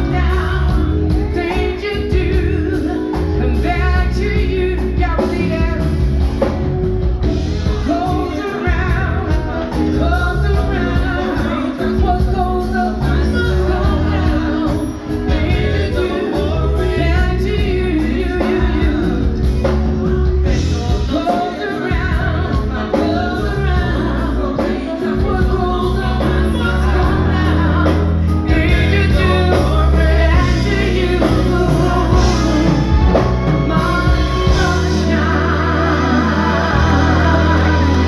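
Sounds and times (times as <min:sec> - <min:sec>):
person singing: 0:00.0 - 0:06.6, 0:07.6 - 0:38.0
heavy bass: 0:00.0 - 0:38.0
live band music: 0:00.0 - 0:38.0.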